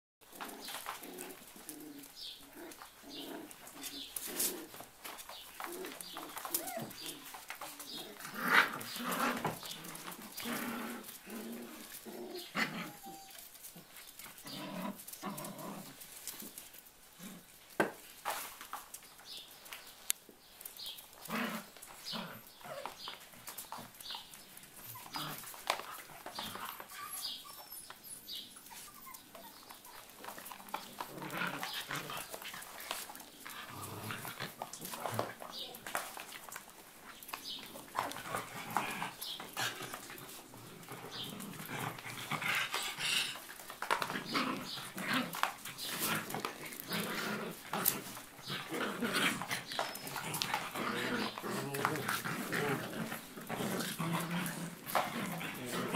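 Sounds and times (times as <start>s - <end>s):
dogs scuffling: 0.2s - 55.9s.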